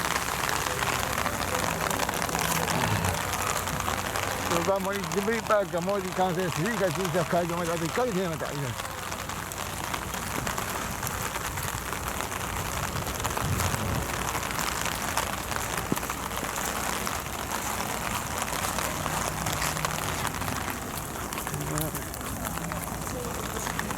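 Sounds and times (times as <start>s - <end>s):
steady rain with drop hits: 0.0s - 23.9s.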